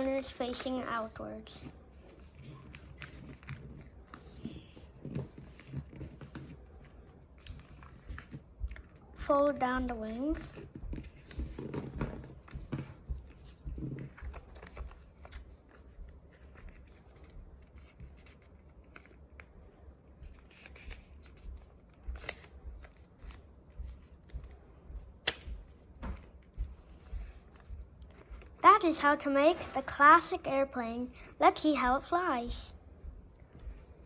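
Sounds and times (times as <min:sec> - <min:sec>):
paper rustling and crinkling: 0:00.0 - 0:19.5, 0:20.2 - 0:28.6.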